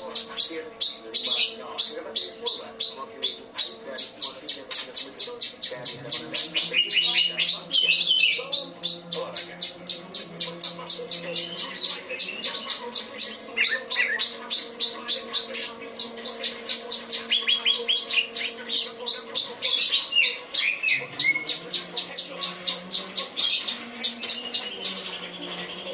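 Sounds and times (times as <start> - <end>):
bird singing high chirps: 0.0 - 25.9.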